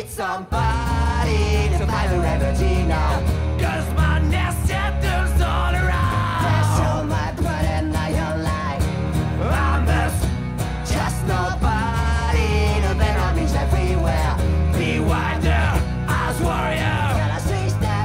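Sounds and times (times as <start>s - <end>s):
men singing: 0.0s - 18.0s
acoustic guitars strumming: 0.5s - 18.0s.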